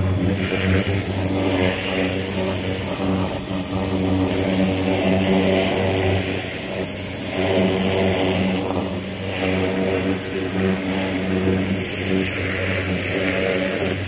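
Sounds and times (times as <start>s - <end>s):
pressure washer humming: 0.0s - 14.0s
water jet hissing on metal: 0.0s - 14.0s.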